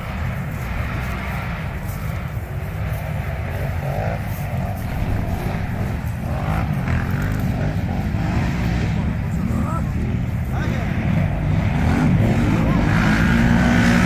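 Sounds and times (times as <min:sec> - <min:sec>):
quad bike engines revving: 0:00.0 - 0:14.0.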